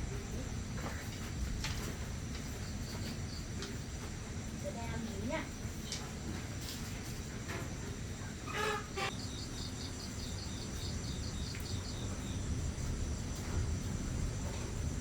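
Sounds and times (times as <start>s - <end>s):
insect chirps: 0.0s - 6.0s, 7.8s - 15.0s
crickets trilling: 0.0s - 15.0s.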